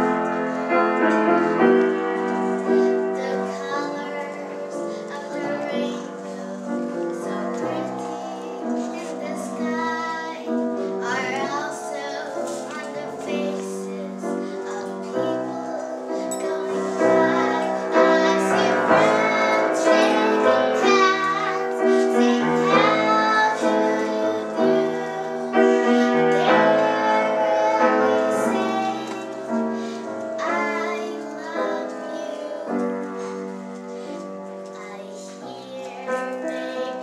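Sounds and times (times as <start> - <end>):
girl singing: 0.0 - 37.0
grand piano: 0.0 - 37.0.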